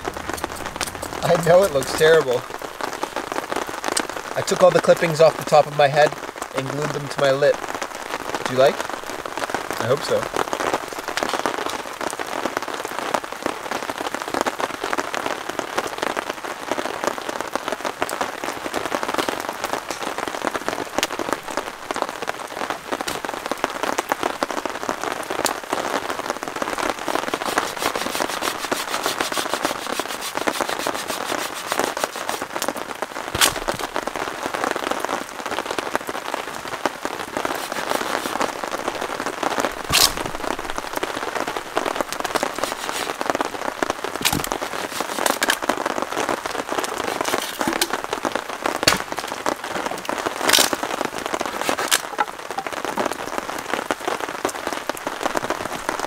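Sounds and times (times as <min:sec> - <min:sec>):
rain falling on a tarp: 0:00.0 - 0:56.0.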